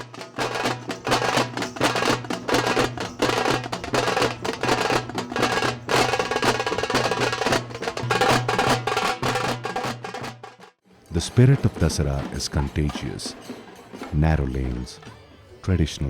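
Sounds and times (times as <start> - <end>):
fast dense drumming: 0.0 - 15.0.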